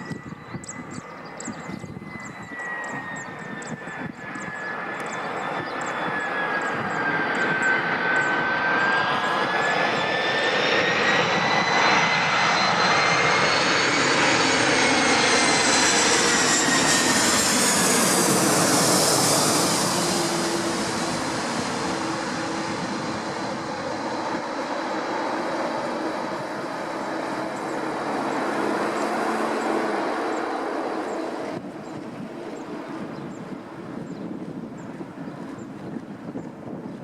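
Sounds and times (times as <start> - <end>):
jet engines rushing: 0.0 - 36.9
jet engine whine: 0.0 - 37.0.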